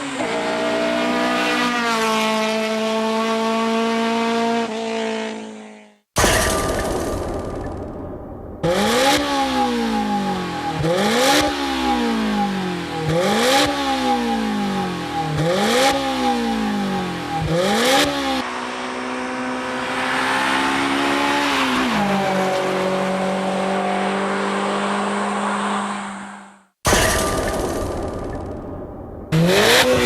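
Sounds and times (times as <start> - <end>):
car engine revving: 0.0 - 5.6, 6.7 - 26.1, 27.2 - 30.0.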